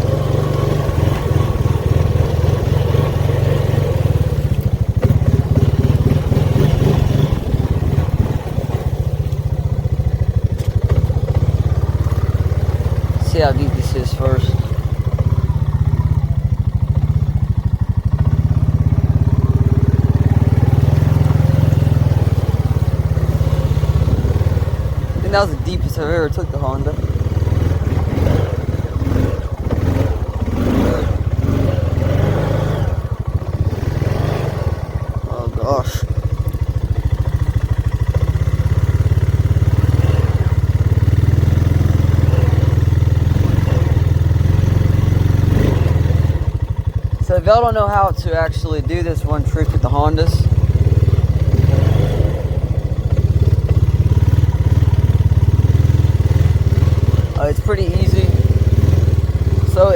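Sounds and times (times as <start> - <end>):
atv engine running under load: 0.0 - 59.9.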